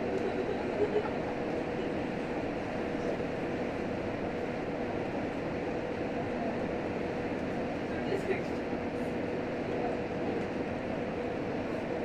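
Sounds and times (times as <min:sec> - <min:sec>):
railcar wheels rumbling on track: 0:00.0 - 0:12.0.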